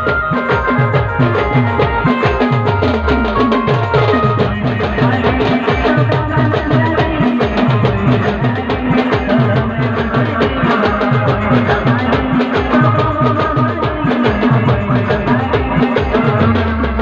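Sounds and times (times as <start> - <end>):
fast steady drumbeat: 0.0 - 17.0
live band dance music: 0.0 - 17.0.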